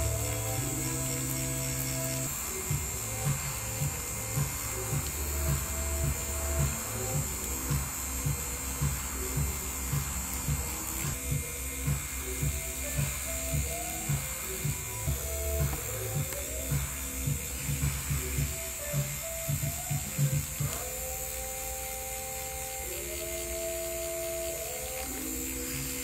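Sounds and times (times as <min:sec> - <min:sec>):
background music with steady beat: 0:00.0 - 0:26.0
steady electric buzz: 0:00.0 - 0:26.0.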